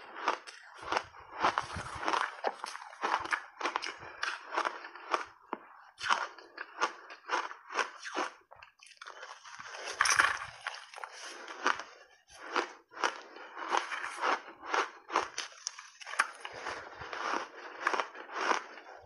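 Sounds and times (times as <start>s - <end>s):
ice being bitten and chewed: 0.0s - 19.0s.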